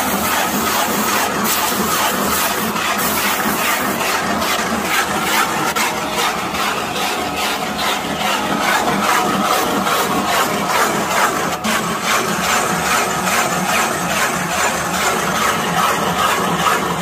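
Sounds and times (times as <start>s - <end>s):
wood lathe cutter scraping wood: 0.0s - 17.0s.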